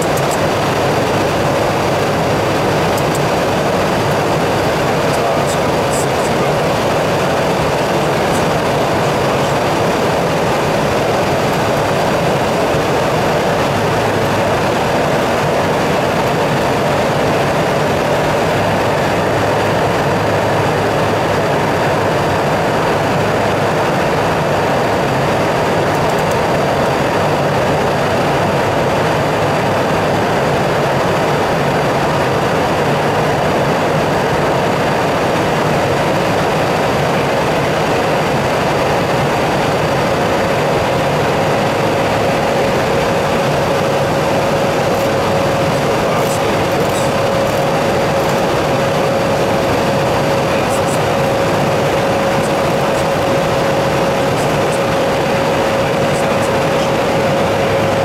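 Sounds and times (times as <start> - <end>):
airflow and engine noise: 0.0 - 58.0
faint high whine: 0.0 - 58.0.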